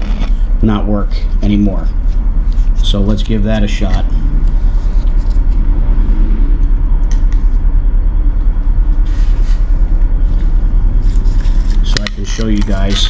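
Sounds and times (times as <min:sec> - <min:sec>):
low pulsing rumble: 0:00.0 - 0:13.0.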